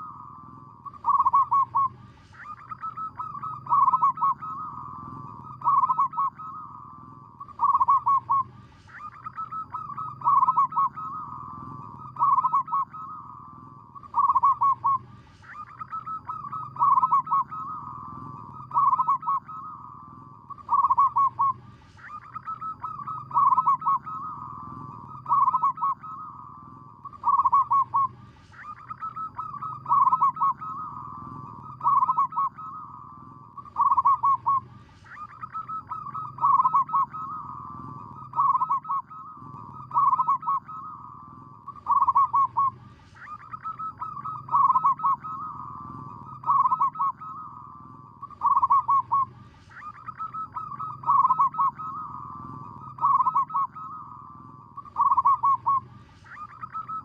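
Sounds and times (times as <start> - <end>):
dove cooing: 0.0 - 57.0
steady low hum: 0.0 - 57.0.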